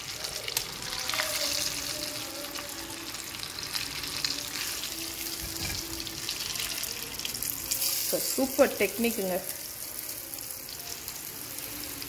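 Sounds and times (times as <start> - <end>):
chicken sizzling in hot oil: 0.0 - 12.0
metal tongs turning food in oil: 0.0 - 12.0.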